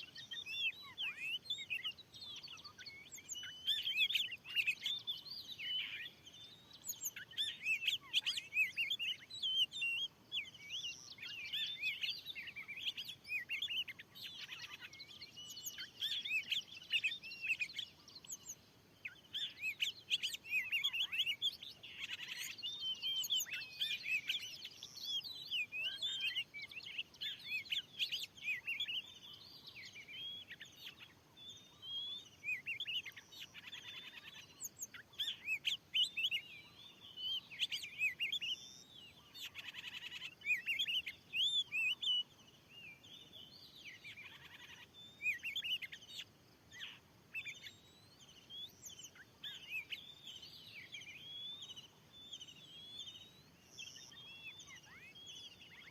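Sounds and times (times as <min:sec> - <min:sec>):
bird whistling and chirping: 0:00.0 - 0:55.9.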